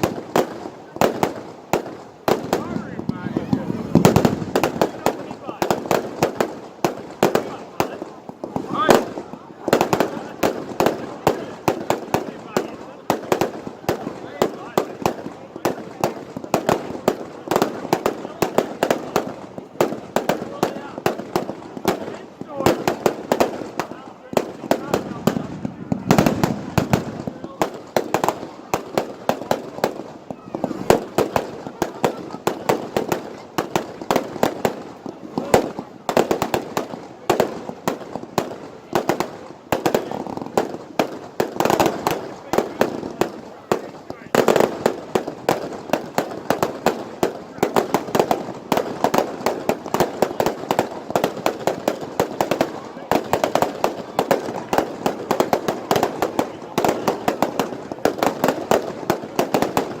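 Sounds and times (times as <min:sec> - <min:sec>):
fireworks bangs and crackles: 0:00.0 - 1:00.0.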